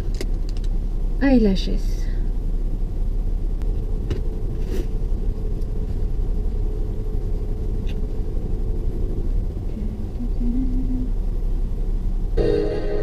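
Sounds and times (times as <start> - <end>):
car engine rumbling inside car: 0.0 - 13.0.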